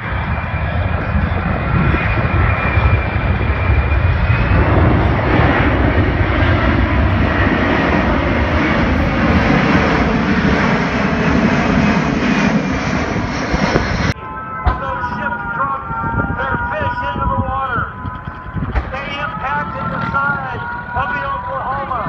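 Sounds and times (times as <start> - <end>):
airplane engine flying past: 0.0 - 22.0.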